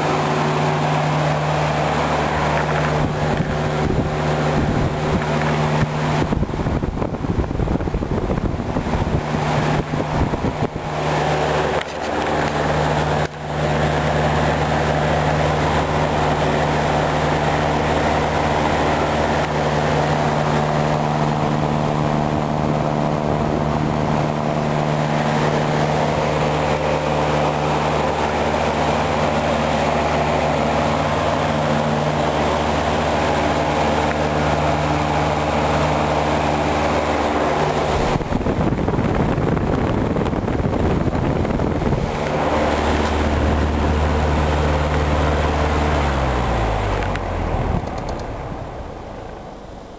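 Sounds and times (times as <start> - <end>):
air rushing from fan blades: 0.0 - 49.9
fan motor hum: 0.0 - 49.9.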